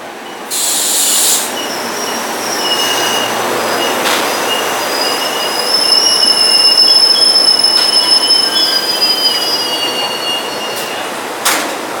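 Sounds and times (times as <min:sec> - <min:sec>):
train cars rumbling: 0:00.0 - 0:12.0
train brakes squealing: 0:00.2 - 0:11.1.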